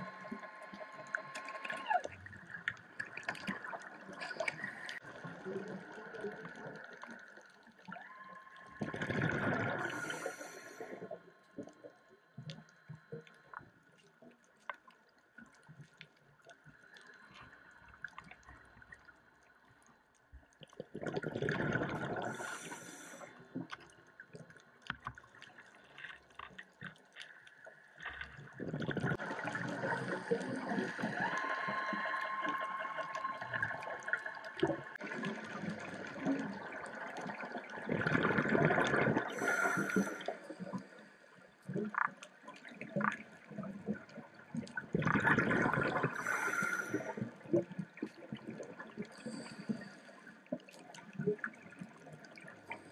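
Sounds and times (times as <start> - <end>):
underwater bubbles gurgling: 0.0 - 52.9.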